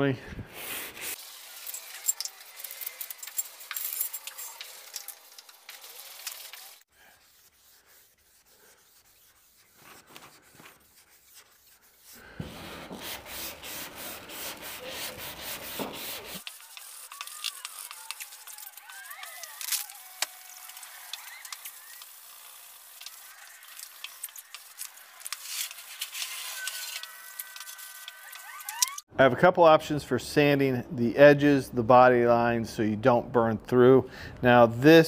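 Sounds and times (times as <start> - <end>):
sandpaper rasping back and forth: 0.6 - 29.0.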